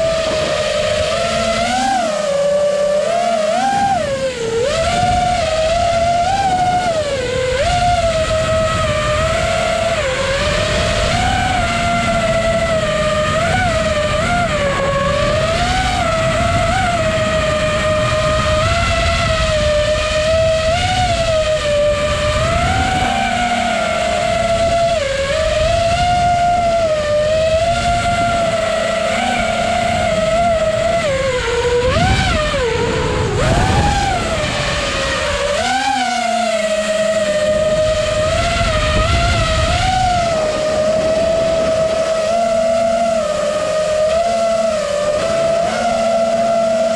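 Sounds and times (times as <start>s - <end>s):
quadcopter motors whining: 0.0s - 46.9s
wind rush on microphone: 0.0s - 46.9s.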